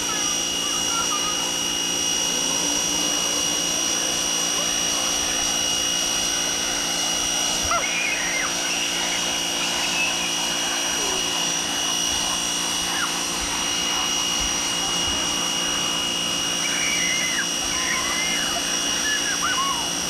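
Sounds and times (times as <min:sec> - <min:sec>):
pressure washer running: 0:00.0 - 0:20.0.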